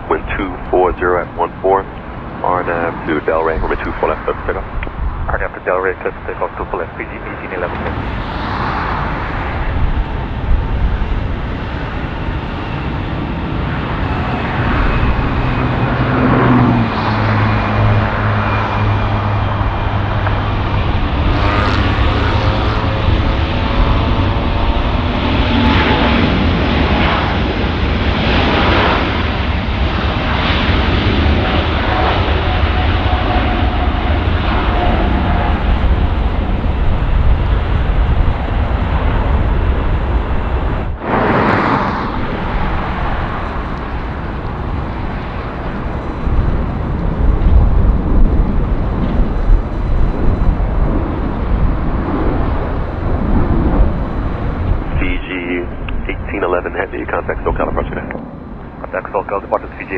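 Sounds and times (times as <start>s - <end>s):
jet airliner taking off: 0.0s - 59.9s.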